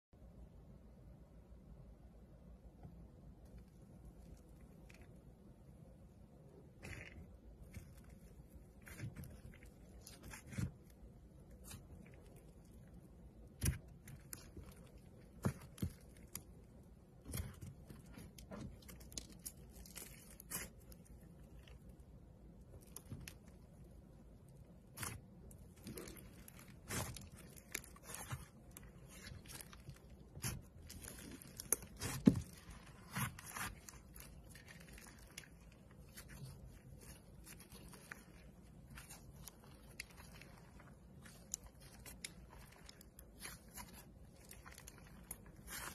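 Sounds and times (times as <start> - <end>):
cake squishing and tearing: 3.5 - 5.5, 6.3 - 45.9
sharp crackles and crunches: 6.7 - 45.9.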